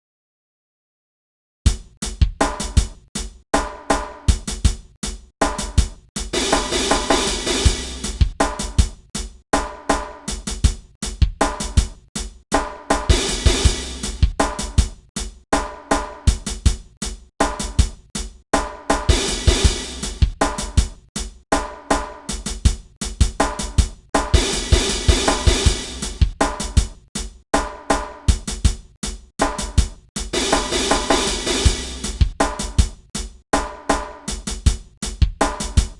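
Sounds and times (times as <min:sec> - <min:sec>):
drum kit hip hop groove: 0:01.7 - 0:35.9.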